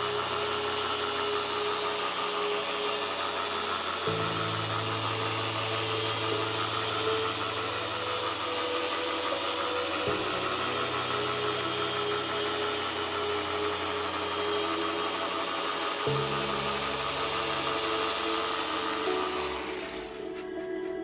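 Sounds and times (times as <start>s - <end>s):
polisher motor hum: 0.0s - 21.0s.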